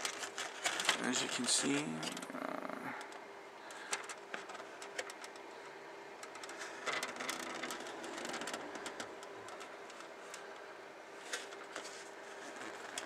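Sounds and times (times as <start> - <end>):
light plastic clicks and rustles: 0.0 - 2.3, 3.0 - 5.5, 6.2 - 13.0
faint steady hum: 0.0 - 13.0.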